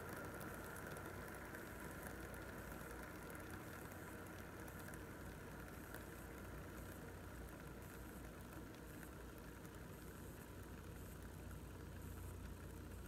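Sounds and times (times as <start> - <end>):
fidget spinners whirring: 0.0 - 13.0.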